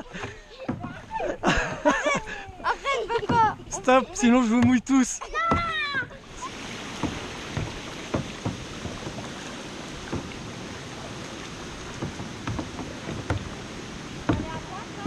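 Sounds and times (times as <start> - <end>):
canoe paddles splashing: 0.0 - 15.0
moving water wash: 0.0 - 15.0.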